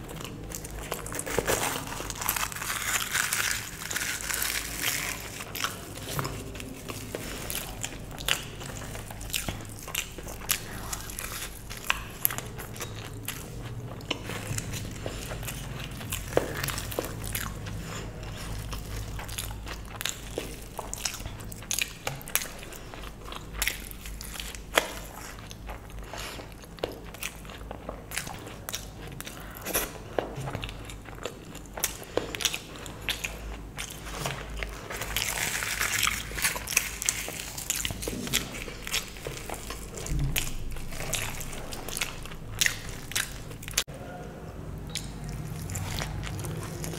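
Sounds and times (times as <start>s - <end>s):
chewing with mouth clicks: 0.0s - 43.9s, 44.6s - 46.9s.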